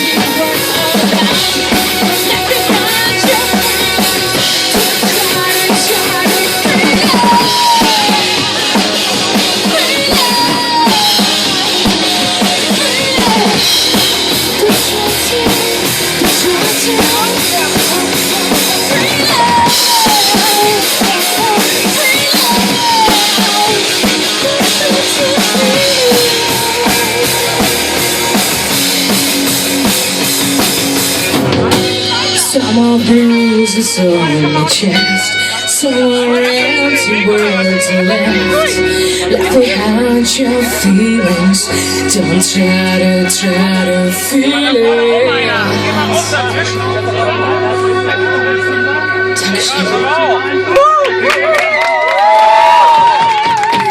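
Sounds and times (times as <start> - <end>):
drum kit beat: 0.0 - 45.0, 50.7 - 53.9
lead guitar bending notes: 0.0 - 51.6
rock guitars: 0.0 - 53.9.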